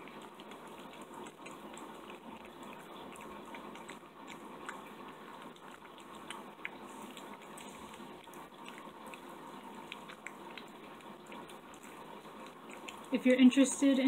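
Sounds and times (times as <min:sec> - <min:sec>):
cat chewing wet food: 0:00.0 - 0:14.0.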